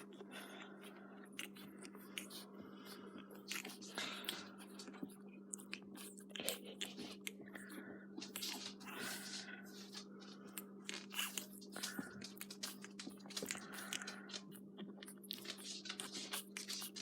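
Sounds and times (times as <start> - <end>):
puppies chewing and smacking: 0.0 - 17.0
steady low hum: 0.0 - 17.0.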